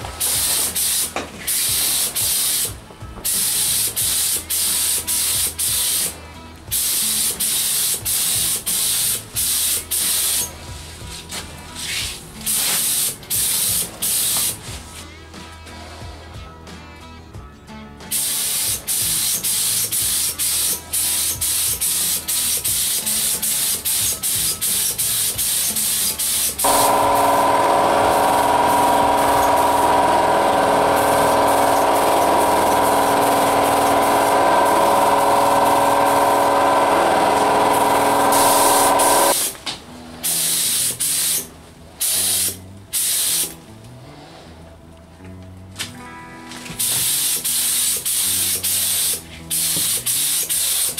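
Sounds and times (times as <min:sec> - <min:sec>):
paint spray gun hissing: 0:00.2 - 0:10.5, 0:12.5 - 0:14.6, 0:18.1 - 0:39.5, 0:40.2 - 0:43.6, 0:46.8 - 0:50.9.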